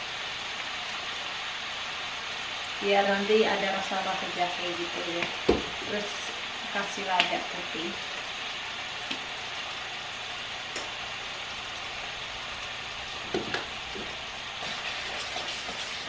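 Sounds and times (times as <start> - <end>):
butter and garlic sizzling: 0.0 - 16.0.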